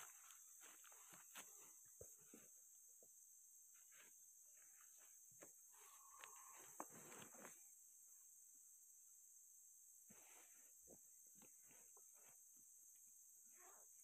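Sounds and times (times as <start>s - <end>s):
high-pitched insect hum: 0.0s - 14.0s.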